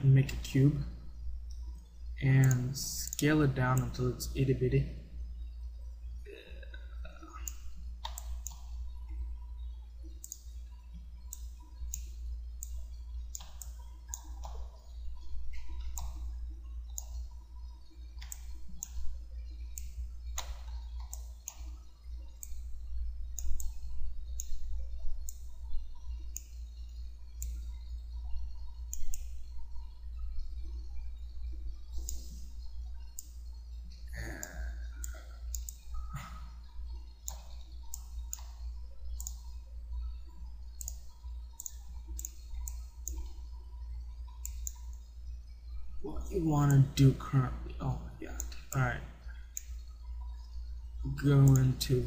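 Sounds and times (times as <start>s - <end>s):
low electrical hum: 0.0s - 52.0s
computer mouse clicks: 1.5s - 4.1s, 7.1s - 33.6s, 34.4s - 45.1s, 48.3s - 50.6s.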